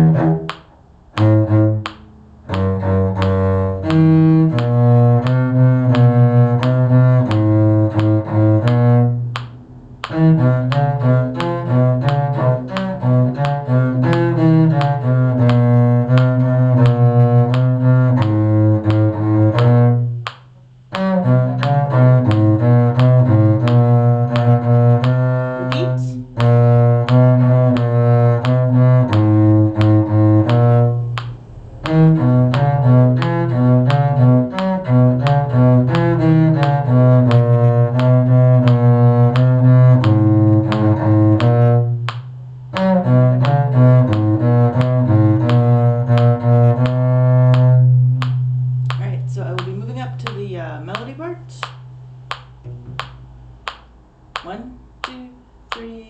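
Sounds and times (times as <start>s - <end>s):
bowed string instruments playing: 0.0s - 55.1s.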